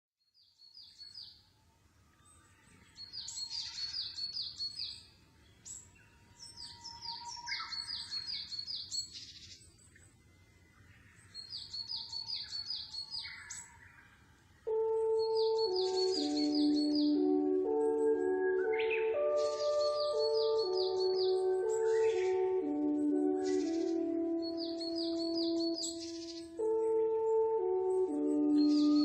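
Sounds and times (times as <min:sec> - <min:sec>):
songbird chirping: 0:00.2 - 0:29.0.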